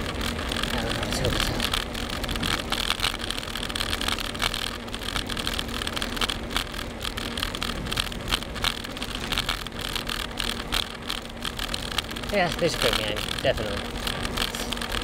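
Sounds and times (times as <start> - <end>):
bicycle tyre road noise: 0.0 - 15.0
bike rattling: 0.0 - 15.0
car running: 0.0 - 15.0.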